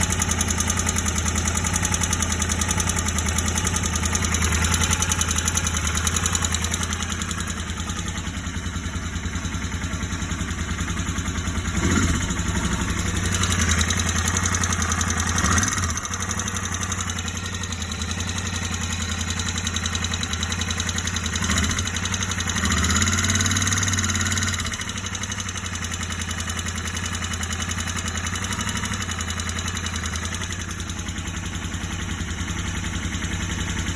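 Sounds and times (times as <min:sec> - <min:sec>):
motorcycle engine idling with knocking: 0:00.0 - 0:33.9.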